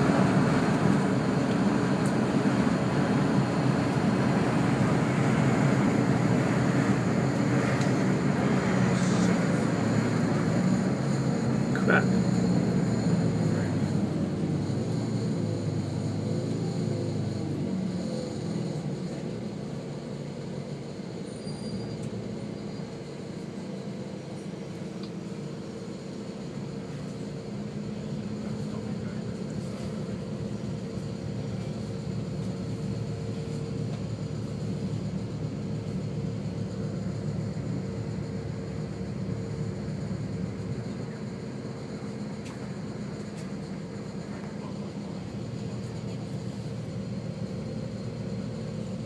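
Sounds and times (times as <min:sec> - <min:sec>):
vehicle engine and road drone: 0:00.0 - 0:49.0.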